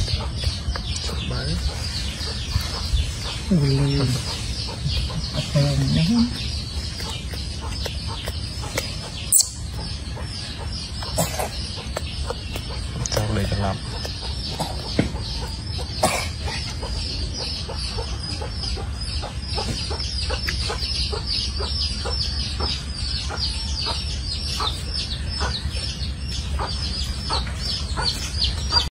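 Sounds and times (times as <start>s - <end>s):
birds chirping rapidly: 0.0s - 28.9s.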